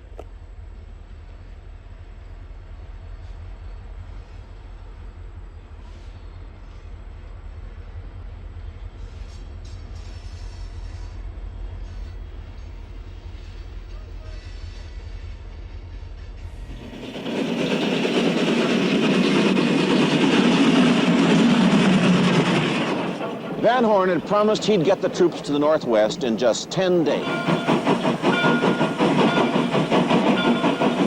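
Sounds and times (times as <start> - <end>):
steam train rumbling: 0.0 - 31.0.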